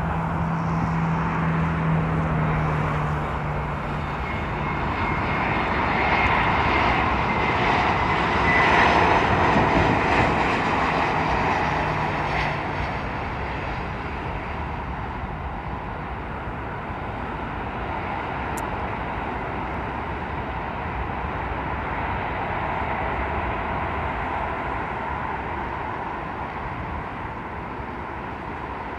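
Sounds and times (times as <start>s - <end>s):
jet airliner engine roar: 0.0s - 28.9s.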